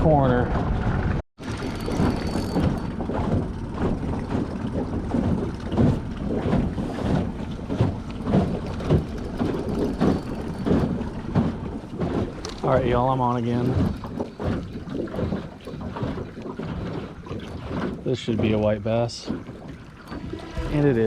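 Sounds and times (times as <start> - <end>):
water around boat: 0.0 - 21.0
wind buffeting microphone: 0.0 - 21.0.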